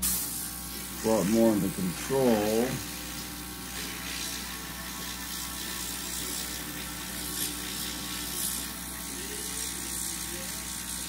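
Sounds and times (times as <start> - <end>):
air compressor hum: 0.0 - 11.0
airbrush hissing: 0.0 - 11.0.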